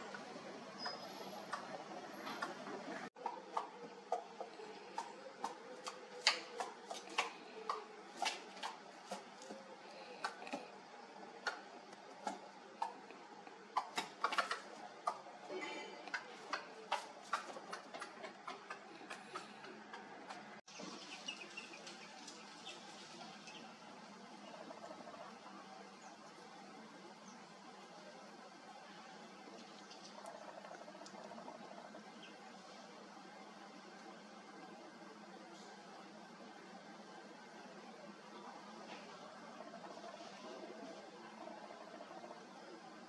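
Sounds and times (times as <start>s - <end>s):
faint outdoor background: 0.0s - 43.0s.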